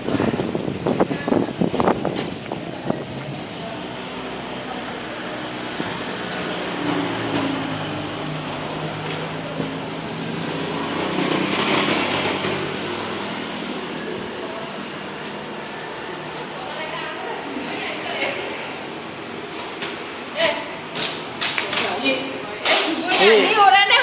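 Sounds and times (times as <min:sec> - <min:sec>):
vehicle engine passing: 0:00.0 - 0:19.5
traffic hum: 0:00.0 - 0:24.0.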